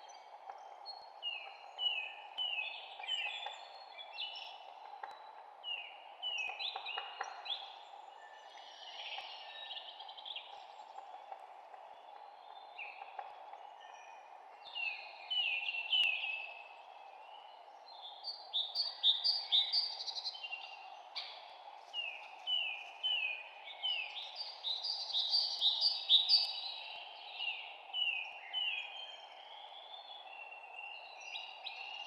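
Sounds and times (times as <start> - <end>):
low background hiss: 0.0 - 32.0
songbirds chirping: 0.0 - 32.0.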